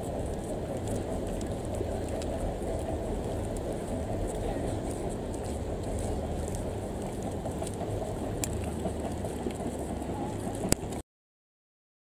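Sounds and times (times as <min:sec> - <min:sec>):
crowd murmur: 0:00.0 - 0:11.0
diesel railcars rumbling: 0:00.0 - 0:11.0.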